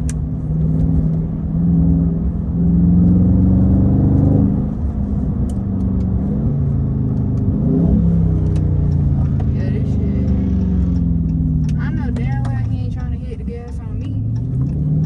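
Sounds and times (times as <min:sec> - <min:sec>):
car engine under throttle: 0:00.0 - 0:15.0.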